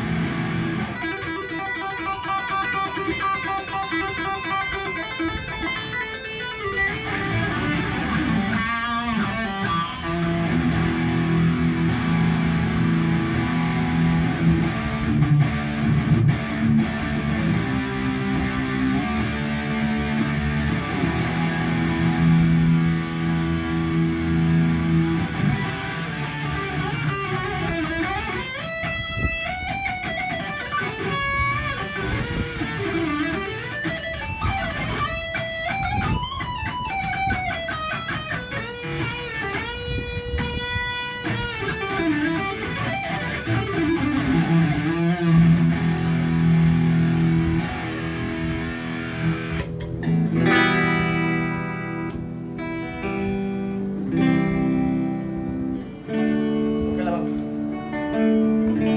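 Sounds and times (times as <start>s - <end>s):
electric guitar playing: 0.0s - 58.9s.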